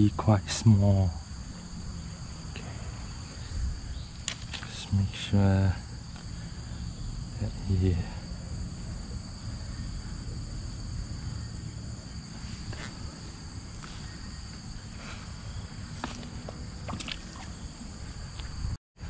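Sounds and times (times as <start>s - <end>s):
insects trilling: 0.0s - 18.8s.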